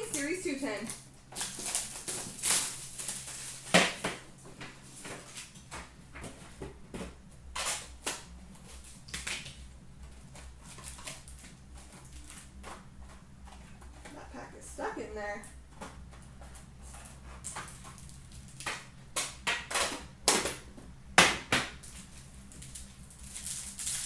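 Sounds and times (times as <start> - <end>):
foil packs rustling: 0.0 - 20.7, 21.8 - 24.0.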